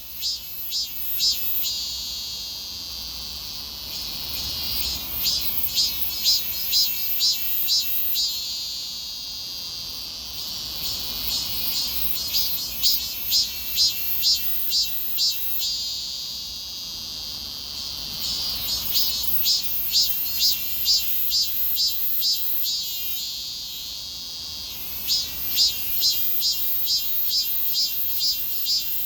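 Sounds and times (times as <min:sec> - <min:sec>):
cicada pulsing call: 0:00.0 - 0:29.0.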